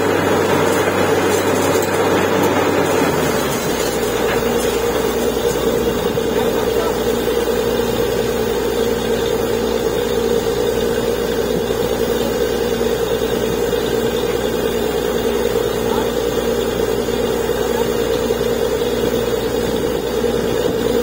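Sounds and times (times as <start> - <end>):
drilling rig engine drone: 0.0 - 21.0.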